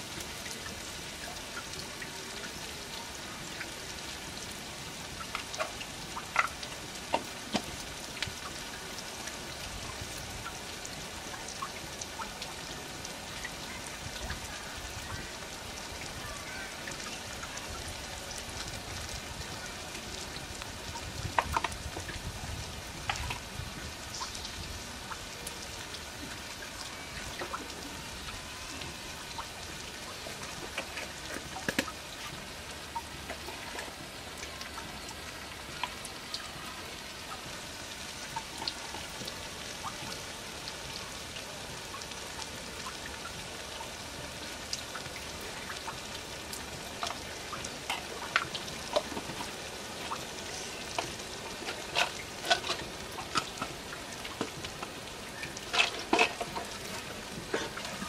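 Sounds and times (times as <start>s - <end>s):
onions frying in oil: 0.0s - 58.0s.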